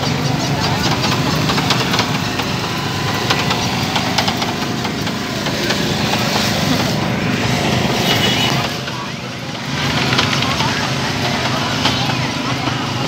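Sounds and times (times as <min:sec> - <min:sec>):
crowd noise: 0:00.0 - 0:13.0
engine hum: 0:00.0 - 0:13.0.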